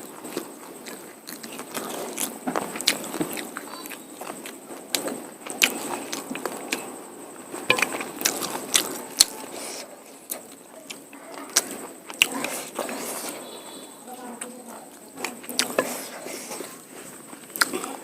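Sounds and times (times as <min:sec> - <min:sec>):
person chewing with wet smacks: 0:00.0 - 0:13.5, 0:14.3 - 0:18.0.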